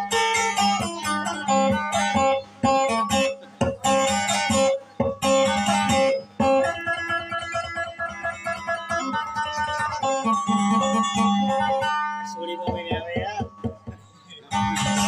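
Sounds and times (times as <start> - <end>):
acoustic guitar picked melody: 0.0 - 15.0.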